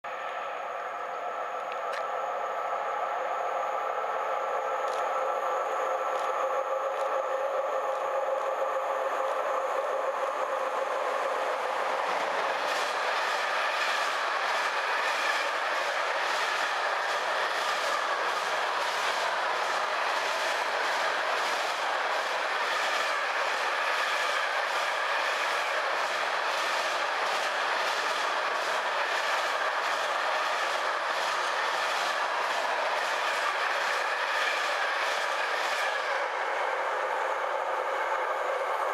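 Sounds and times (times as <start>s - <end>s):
electric locomotive humming: 0.0s - 38.9s
freight train rumbling past: 0.0s - 38.9s.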